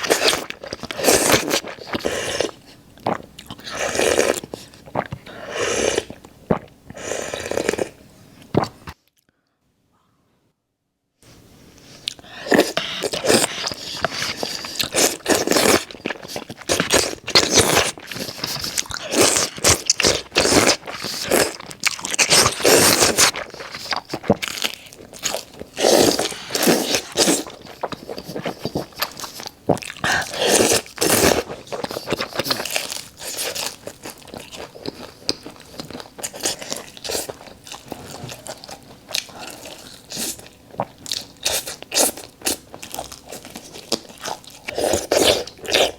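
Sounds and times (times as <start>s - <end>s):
crunchy chewing: 0.0s - 9.0s, 11.8s - 45.9s.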